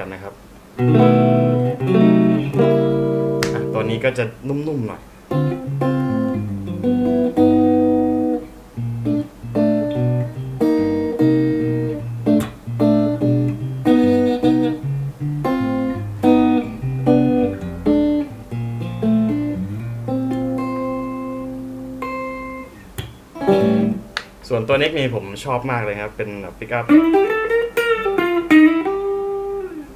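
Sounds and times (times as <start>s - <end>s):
electric guitar through amplifier: 0.7s - 24.4s, 26.9s - 29.9s.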